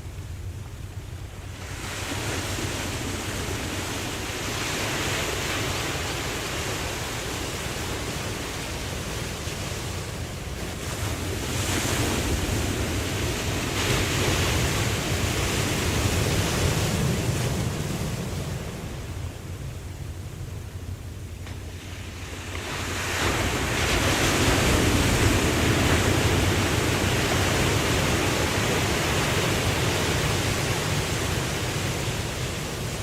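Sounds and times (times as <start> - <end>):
low surf rumble: 0.0 - 33.0
waves breaking: 0.0 - 33.0.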